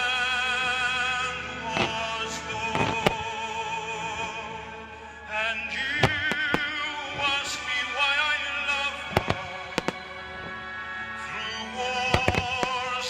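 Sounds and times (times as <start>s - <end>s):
fireworks bursting: 0.0s - 3.7s, 5.8s - 13.0s
music: 0.0s - 13.0s
operatic singing: 0.0s - 13.0s.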